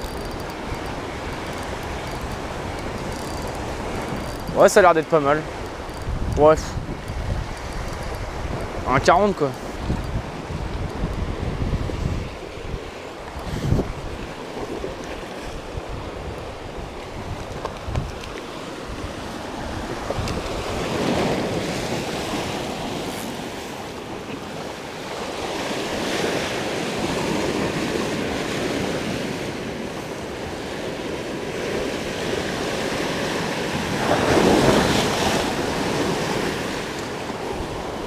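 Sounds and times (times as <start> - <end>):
waves breaking on rocky shore: 0.0 - 38.0.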